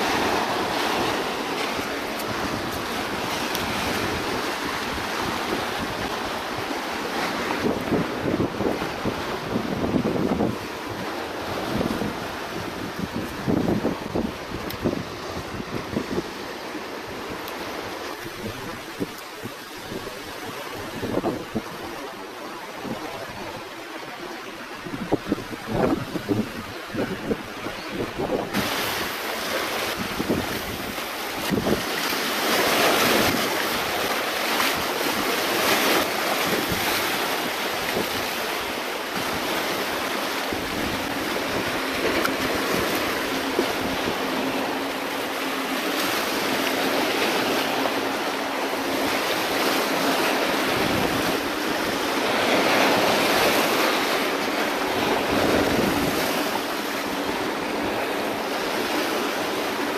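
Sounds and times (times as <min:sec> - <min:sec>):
wind buffeting microphone: 0:00.0 - 0:59.7
small waves breaking on rocks: 0:00.0 - 0:59.9.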